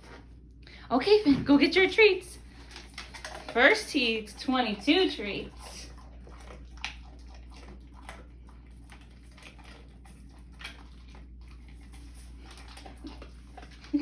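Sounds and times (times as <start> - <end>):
steady low hum: 0.0 - 14.0
dog chewing treats: 1.1 - 14.0.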